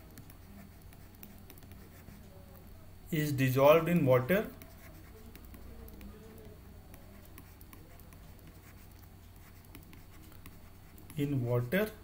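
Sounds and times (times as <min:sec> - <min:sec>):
stylus scratching on pen surface: 0:00.0 - 0:02.4, 0:04.3 - 0:11.9
low steady hum: 0:00.0 - 0:12.0.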